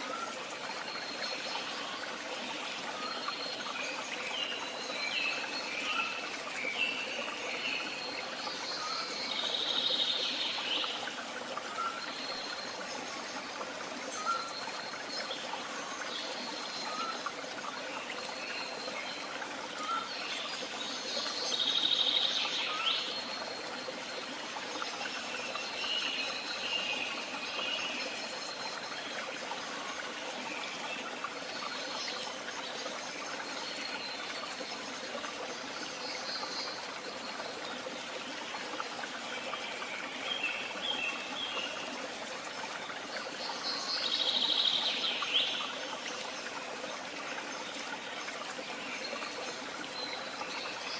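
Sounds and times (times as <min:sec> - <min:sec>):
stream trickling: 0:00.0 - 0:50.9.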